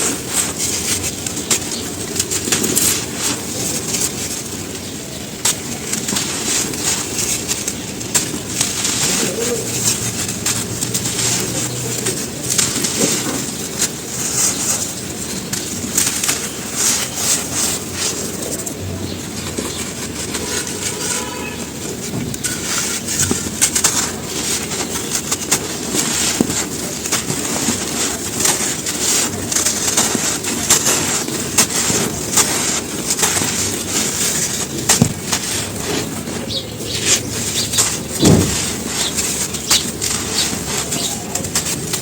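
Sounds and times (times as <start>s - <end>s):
charcoal crunching and crackling: 0.0s - 42.0s.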